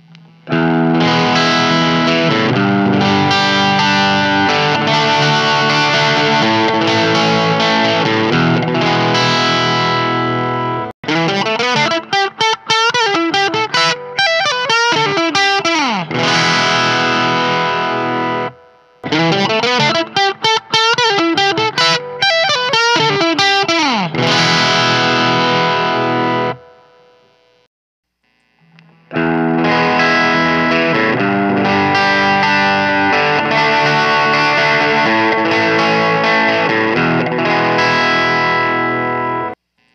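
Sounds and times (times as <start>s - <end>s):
overdriven electric guitar: 0.0s - 27.6s, 28.3s - 39.9s.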